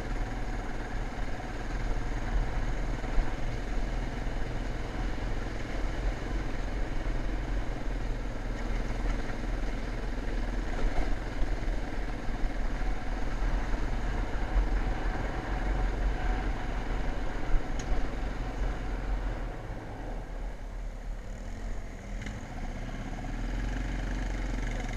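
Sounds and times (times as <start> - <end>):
motocross bike engine: 0.0 - 24.9.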